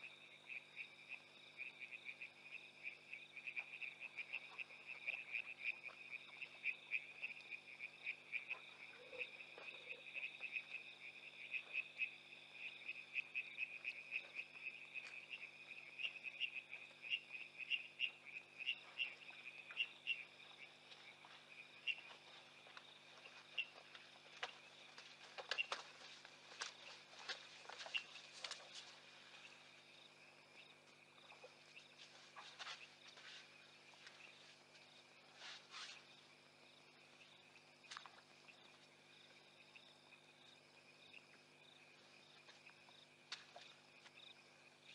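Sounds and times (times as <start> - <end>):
frogs and insects chorus: 0.0 - 44.9.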